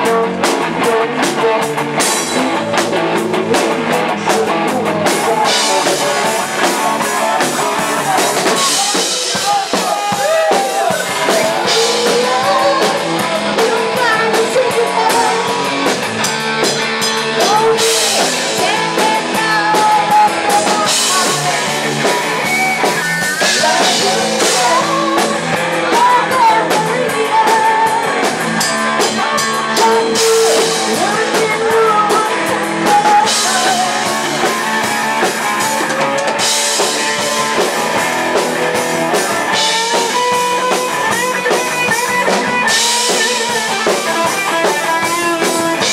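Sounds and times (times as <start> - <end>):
person singing: 0.0 - 16.0, 16.6 - 38.0, 39.1 - 45.9
drum kit: 0.0 - 45.9
electric guitar: 0.0 - 45.9.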